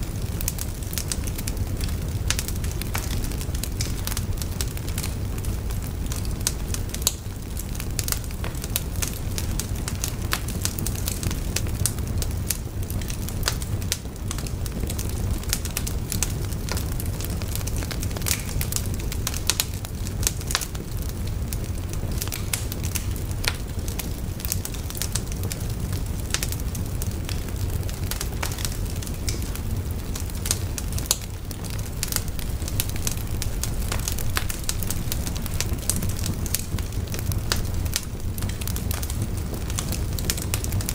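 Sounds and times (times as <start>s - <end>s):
fire low rumble: 0.0s - 40.9s
wood fire crackling and popping: 0.0s - 40.9s.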